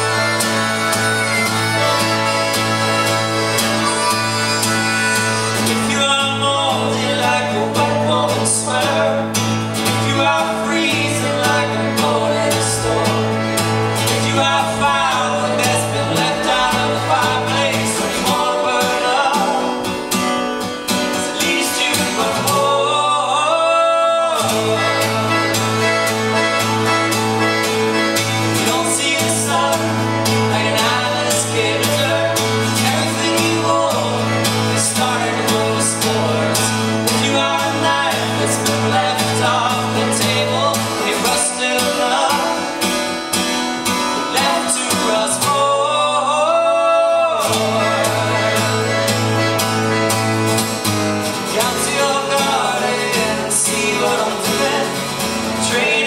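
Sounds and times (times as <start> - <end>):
accordion: 0.0 - 56.0
people singing: 0.0 - 56.0
strummed acoustic guitar: 0.0 - 56.0.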